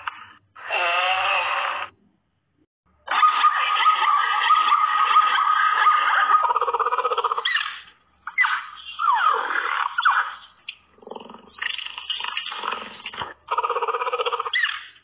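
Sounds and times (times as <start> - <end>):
animal giving harsh calls: 0.1 - 1.9, 3.0 - 15.0.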